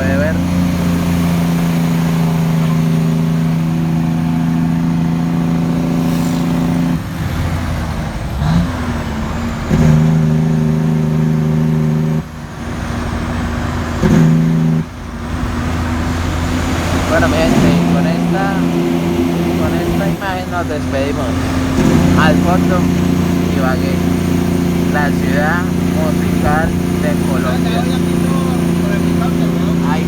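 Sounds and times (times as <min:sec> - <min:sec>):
truck engine brake droning: 0:00.0 - 0:30.0
truck engine running: 0:00.0 - 0:30.0.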